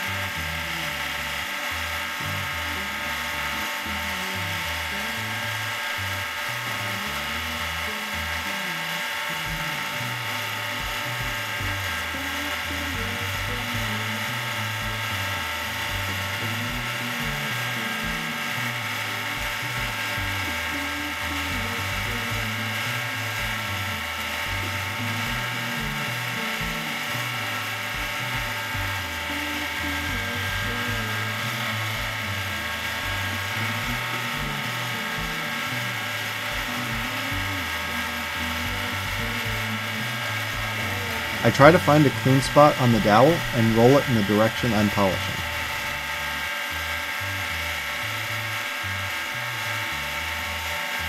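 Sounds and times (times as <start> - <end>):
background music with bass line: 0.0 - 51.0
lathe motor whining: 0.0 - 51.0.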